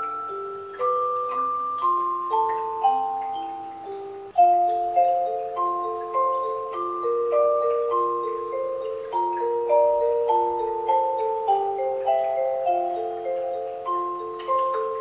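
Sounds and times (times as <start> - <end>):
music-box lullaby from toy: 0.0 - 15.0.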